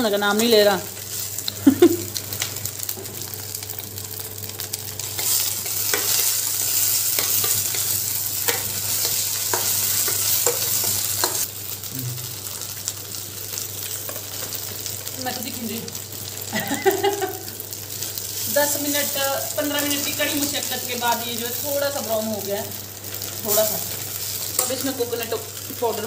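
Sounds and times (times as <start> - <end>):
gourd sizzling in a pot: 0.0 - 26.0.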